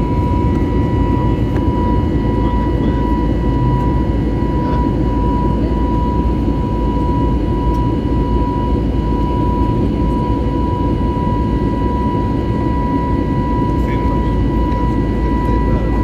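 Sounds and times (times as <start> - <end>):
jet engine cabin rumble: 0.0 - 16.0
thin steady whine: 0.0 - 16.0.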